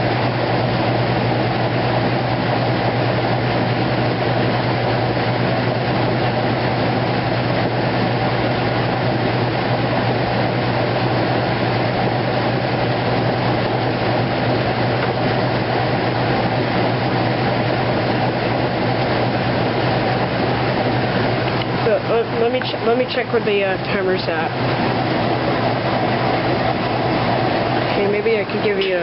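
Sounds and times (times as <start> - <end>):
washing machine hum: 0.0 - 29.0.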